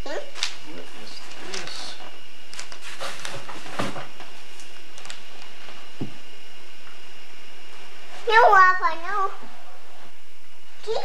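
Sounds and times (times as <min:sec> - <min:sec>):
camcorder tape hiss: 0:00.0 - 0:11.0.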